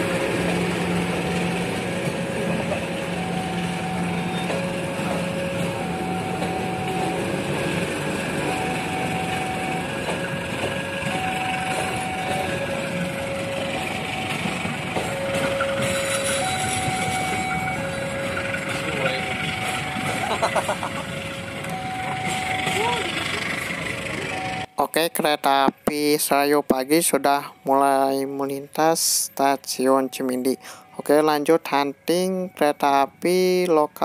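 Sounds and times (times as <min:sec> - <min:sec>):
level-crossing alarm two tones: 0:00.0 - 0:24.8, 0:25.6 - 0:34.0
train coaches rolling slowly: 0:00.0 - 0:34.0.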